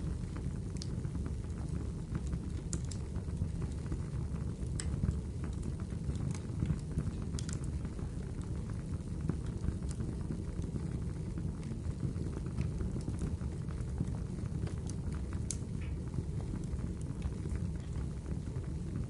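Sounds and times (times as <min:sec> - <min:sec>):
fire flames rumbling: 0:00.0 - 0:19.0
wood fire crackling and popping: 0:00.0 - 0:19.0.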